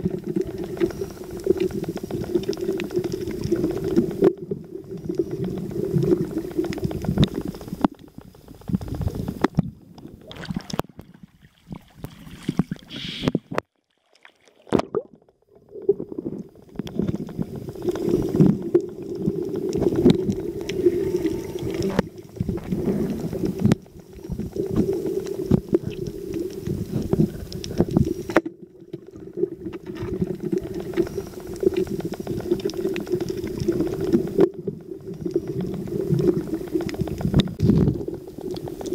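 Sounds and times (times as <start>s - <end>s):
underwater bubbling and gurgling: 0.0s - 38.9s.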